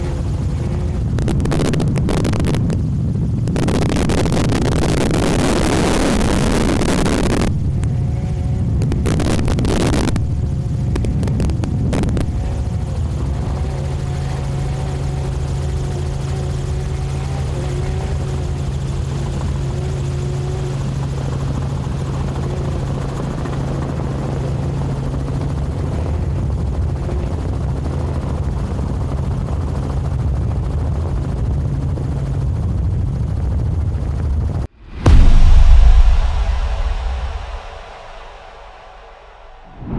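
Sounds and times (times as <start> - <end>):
helicopter engine and rotor noise: 0.0 - 34.7.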